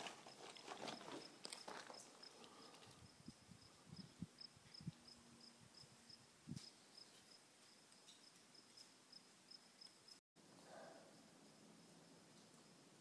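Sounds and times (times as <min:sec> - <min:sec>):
cricket chirping: 0:00.3 - 0:13.0.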